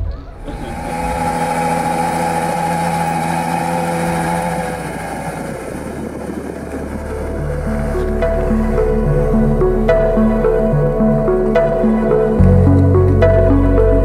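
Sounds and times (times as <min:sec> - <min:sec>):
car engine running: 0:00.4 - 0:14.0.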